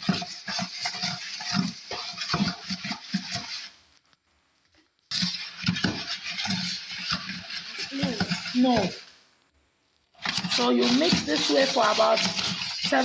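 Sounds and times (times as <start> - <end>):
stick scraping paste in bucket: 0.0 - 3.8, 5.0 - 9.1, 10.1 - 13.0.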